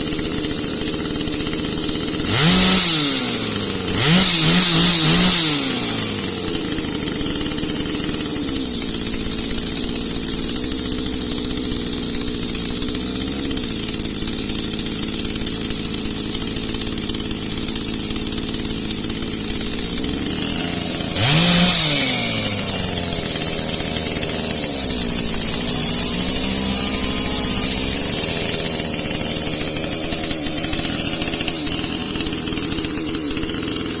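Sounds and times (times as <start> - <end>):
chainsaw engine idling: 0.0 - 34.0.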